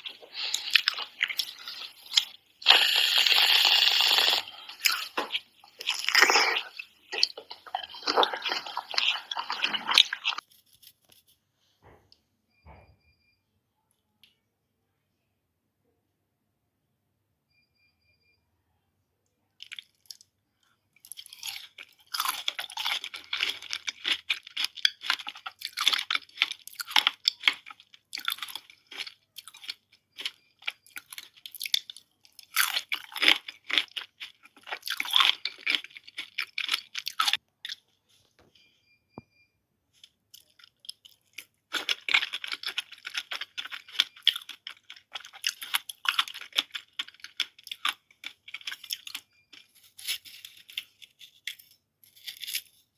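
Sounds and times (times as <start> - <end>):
chewing and crunching fruit: 0.0 - 11.2, 19.4 - 38.3, 40.0 - 52.9.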